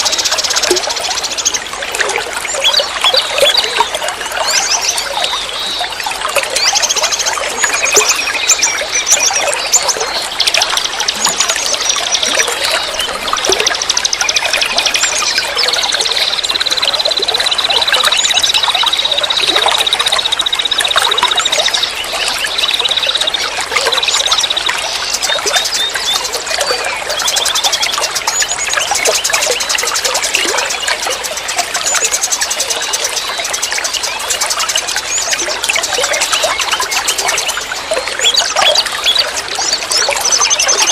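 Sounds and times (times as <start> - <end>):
songbirds chirping: 0.0 - 40.9
stream water flowing: 0.0 - 40.9.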